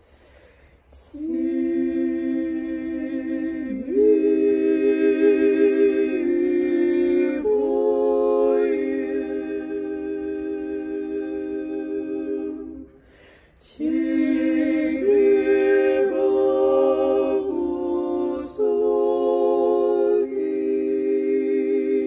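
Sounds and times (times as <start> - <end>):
women singing hymn a cappella: 0.9 - 22.0.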